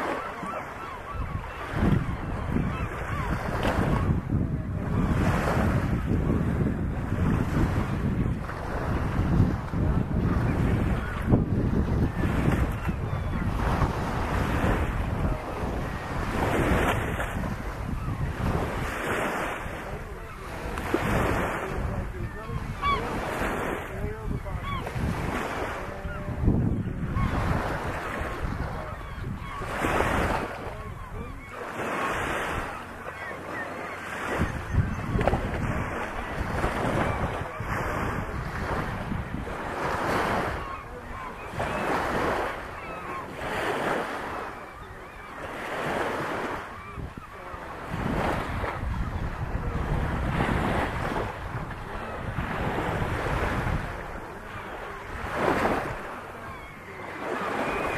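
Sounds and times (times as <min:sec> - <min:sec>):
faint bird calls: 0:00.0 - 0:05.5, 0:10.3 - 0:11.4, 0:12.0 - 0:49.8, 0:50.4 - 0:57.9
small waves washing ashore: 0:00.0 - 0:57.9
wind buffeting microphone: 0:00.8 - 0:33.5, 0:34.1 - 0:44.6, 0:45.8 - 0:56.8.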